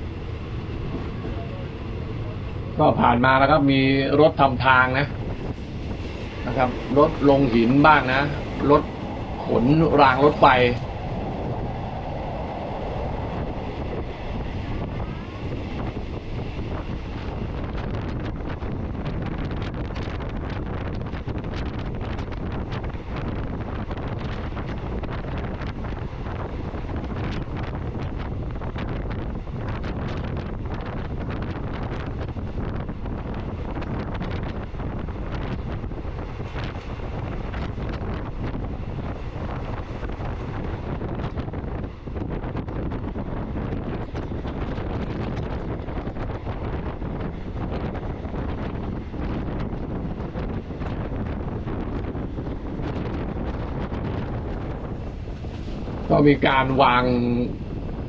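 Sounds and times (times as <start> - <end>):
moving vehicle rumble: 0.0 - 58.0
wind buffeting microphone: 0.0 - 58.0.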